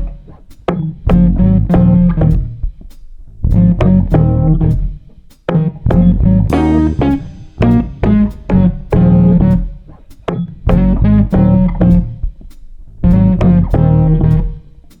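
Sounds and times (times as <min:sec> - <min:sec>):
plucked guitar: 0:00.0 - 0:02.7, 0:03.5 - 0:04.9, 0:05.5 - 0:12.4, 0:13.0 - 0:14.7
bass playing: 0:00.0 - 0:05.0, 0:05.6 - 0:09.8, 0:10.5 - 0:14.7.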